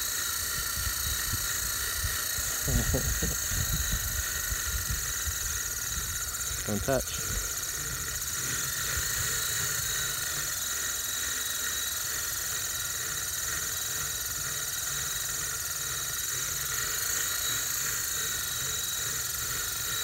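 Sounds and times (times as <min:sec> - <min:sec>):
high-pitched whine: 0:00.0 - 0:20.0.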